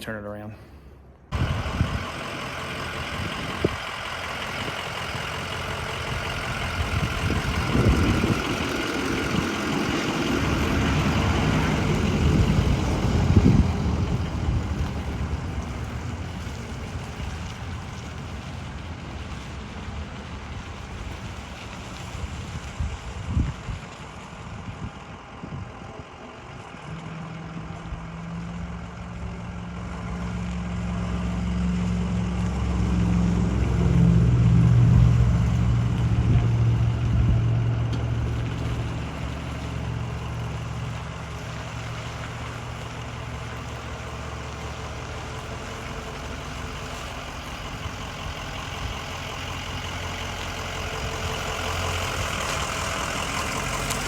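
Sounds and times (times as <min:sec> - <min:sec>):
ambulance engine running: 0:00.8 - 0:54.0.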